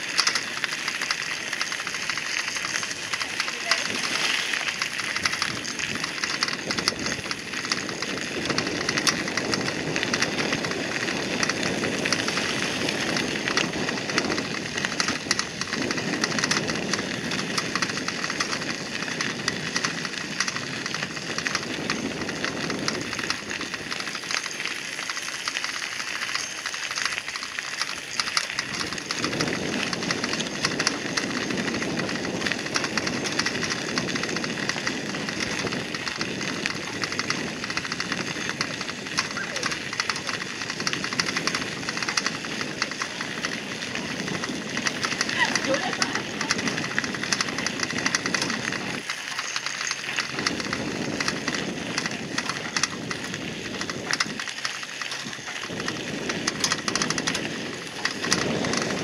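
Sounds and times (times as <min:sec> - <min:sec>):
bicycle tyres crunching on gravel: 0:00.0 - 0:59.0.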